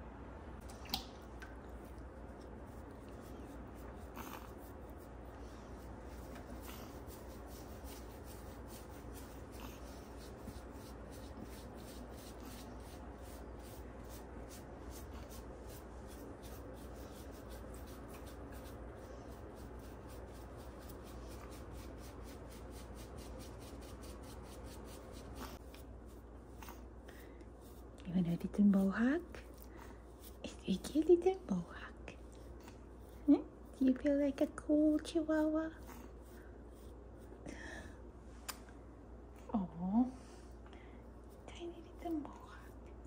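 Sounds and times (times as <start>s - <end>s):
toothbrush scrubbing wet fur: 1.5s - 37.3s.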